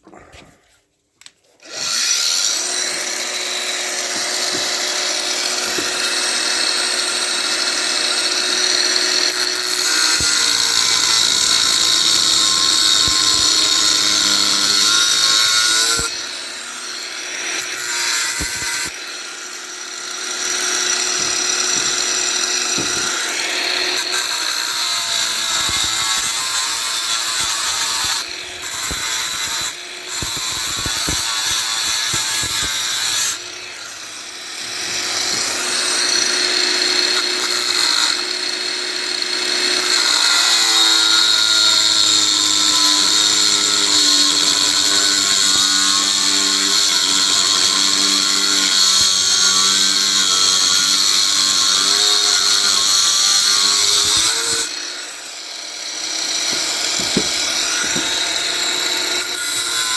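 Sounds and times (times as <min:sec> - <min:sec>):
power tool cutting metal: 0:01.6 - 0:59.9.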